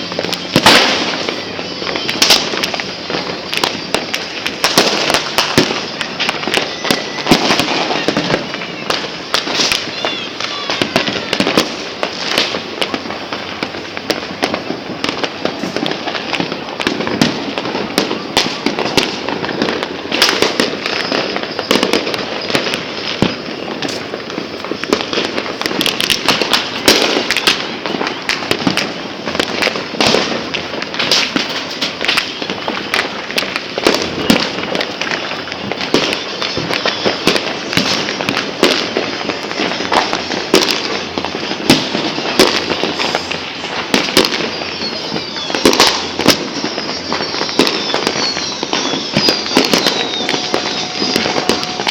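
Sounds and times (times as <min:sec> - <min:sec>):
fireworks crackling and banging: 0:00.0 - 0:51.9.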